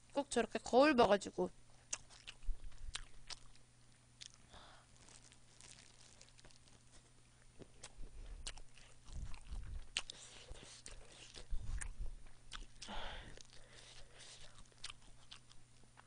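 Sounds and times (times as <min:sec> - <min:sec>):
close chewing and biting: 0:01.8 - 0:03.6, 0:04.2 - 0:16.0.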